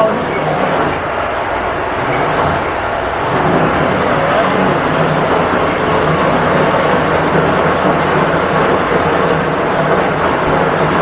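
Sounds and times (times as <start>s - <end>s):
meat grinder running: 0.0s - 1.2s, 1.9s - 11.0s.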